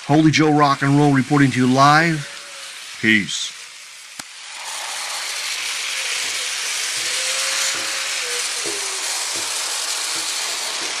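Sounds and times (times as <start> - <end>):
toy train gearbox whirring: 0.0 - 11.0.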